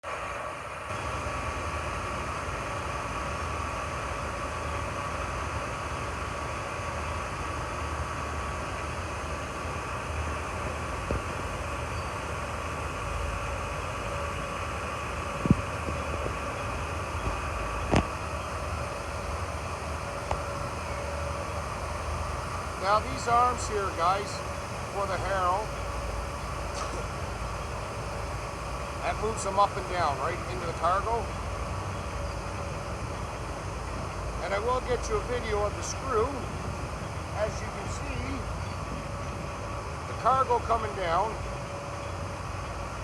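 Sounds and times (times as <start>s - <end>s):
ship machinery drone: 0.0s - 43.0s.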